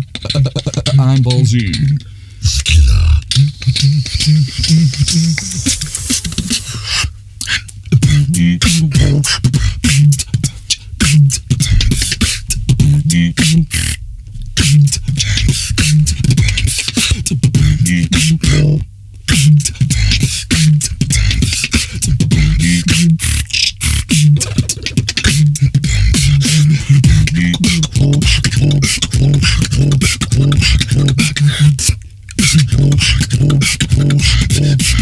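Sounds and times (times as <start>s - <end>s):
beatboxing: 0.0s - 35.0s.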